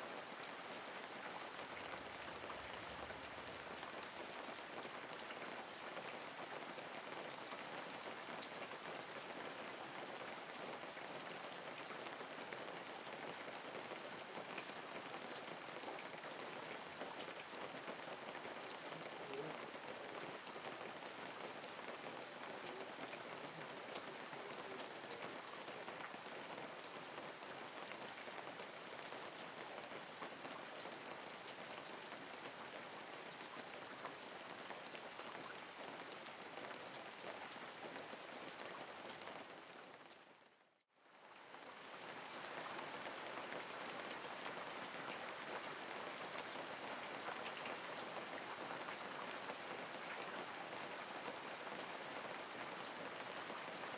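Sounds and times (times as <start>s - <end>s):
light rain falling: 0.0s - 53.9s.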